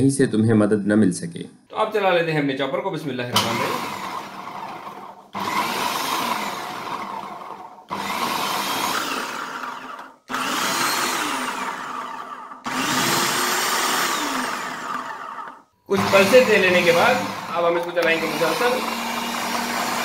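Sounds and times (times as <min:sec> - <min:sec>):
food processor pulsing: 0:03.4 - 0:20.0.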